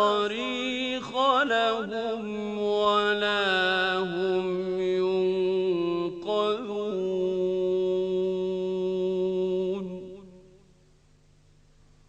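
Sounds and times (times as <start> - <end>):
man chanting melodic recitation: 0.0 - 10.6.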